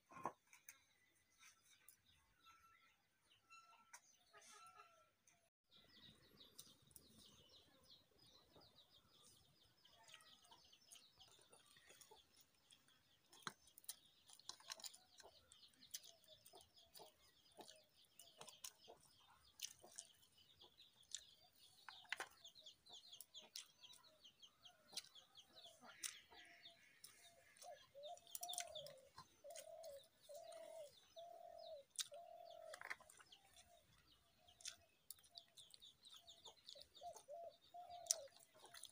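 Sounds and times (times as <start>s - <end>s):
small birds chirping: 0.0s - 38.9s
low repeated bird calls: 5.8s - 38.9s.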